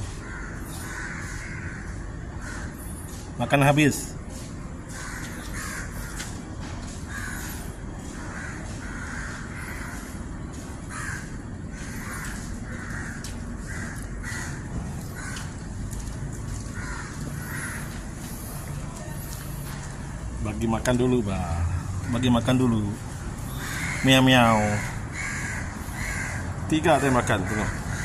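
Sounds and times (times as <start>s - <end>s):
crows cawing: 0.0s - 3.2s, 4.3s - 18.6s, 21.6s - 28.0s.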